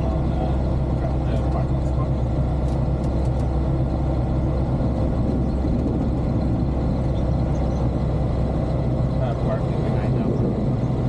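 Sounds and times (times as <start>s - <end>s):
light aircraft engine droning: 0.0s - 11.0s.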